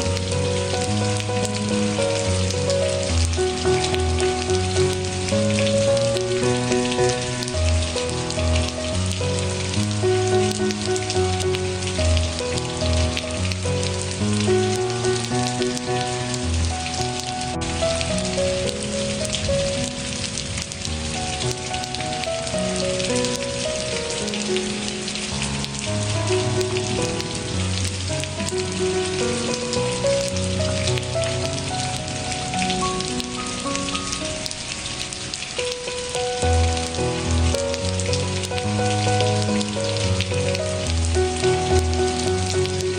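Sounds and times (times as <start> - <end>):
slow soft instrumental music: 0.0 - 42.9
steady rain patter: 0.0 - 42.9.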